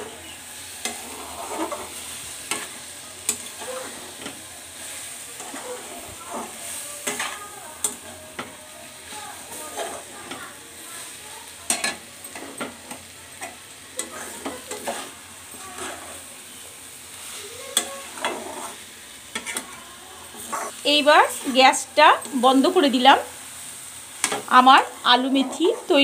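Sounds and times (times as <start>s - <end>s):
metal spatula scraping pan: 0.0s - 8.5s, 9.1s - 11.1s, 11.7s - 16.3s, 17.2s - 22.8s, 24.2s - 26.0s
frying sizzle: 0.0s - 26.0s.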